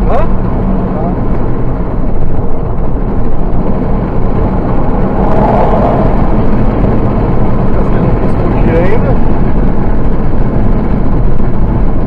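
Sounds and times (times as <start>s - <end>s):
car road and engine noise: 0.0s - 12.0s
truck passing: 0.0s - 12.0s.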